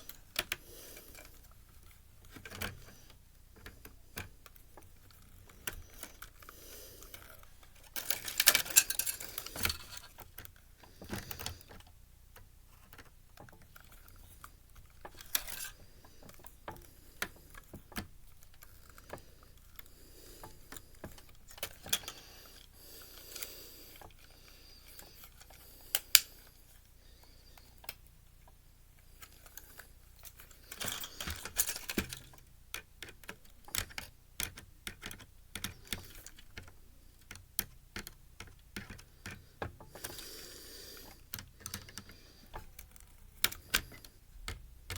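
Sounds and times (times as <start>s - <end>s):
screwdriver being handled: 0.0s - 26.9s, 29.0s - 44.9s
small plastic and metal parts rattling: 0.0s - 40.2s, 41.0s - 44.9s.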